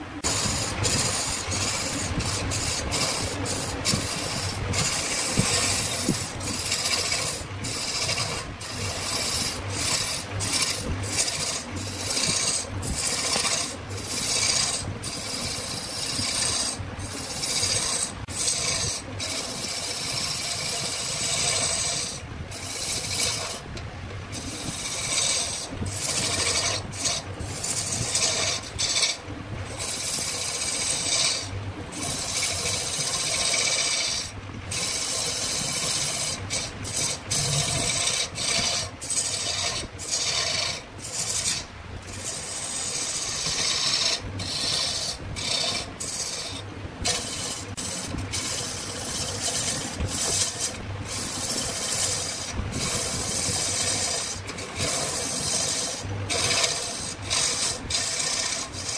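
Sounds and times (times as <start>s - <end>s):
lathe tool scraping wood: 0.0s - 58.9s.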